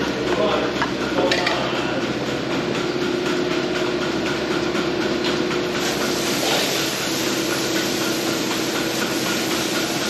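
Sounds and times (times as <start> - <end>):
generator engine drone: 0.0 - 10.0.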